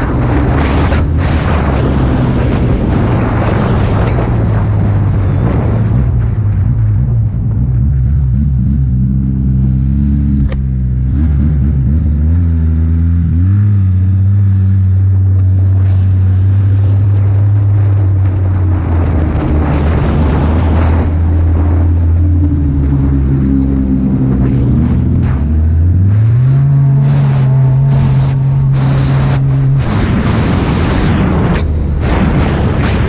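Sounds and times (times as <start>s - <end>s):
rush of wind and snow: 0.0s - 33.0s
snowmobile engine at high revs: 0.0s - 33.0s.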